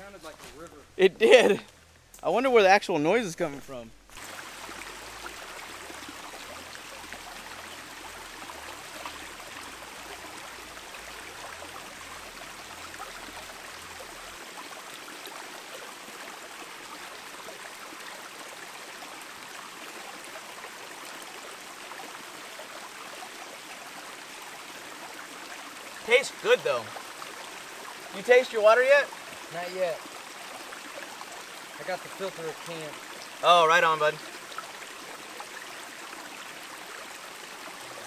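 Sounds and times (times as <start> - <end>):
creek running over rocks: 0.0 - 38.0.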